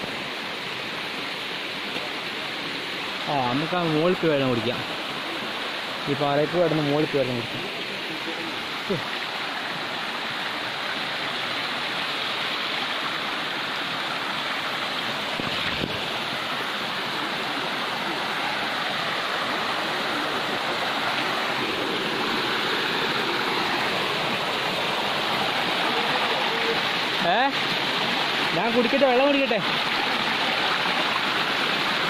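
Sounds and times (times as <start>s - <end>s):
stream rushing over boulders: 0.0s - 32.0s.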